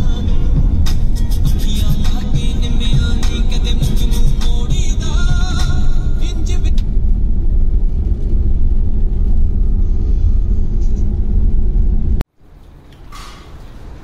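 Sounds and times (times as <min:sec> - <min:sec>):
road rumble from moving vehicle: 0:00.0 - 0:14.0
wind through open window: 0:02.4 - 0:14.0.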